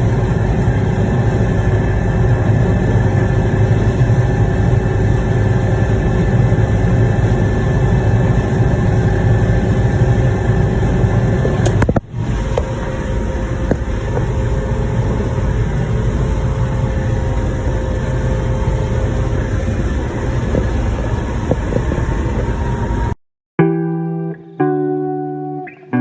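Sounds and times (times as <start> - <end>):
farm machinery engine hum: 0.0 - 23.2
steady machine whine: 0.0 - 23.2.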